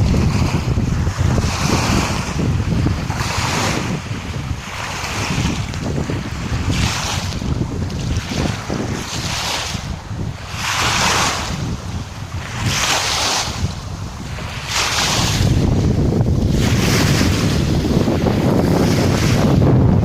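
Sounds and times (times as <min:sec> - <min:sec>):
sea waves washing in: 0:00.0 - 0:20.0
wind buffeting microphone: 0:00.0 - 0:20.0.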